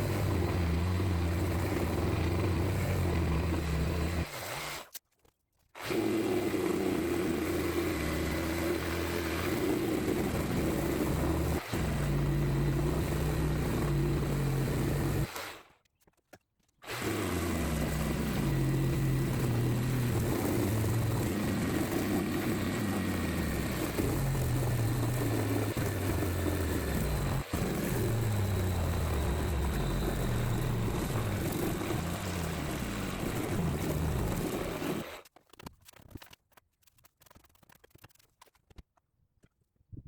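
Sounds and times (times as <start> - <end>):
electric sander running: 0.0 - 4.7, 5.8 - 15.4, 16.9 - 35.2.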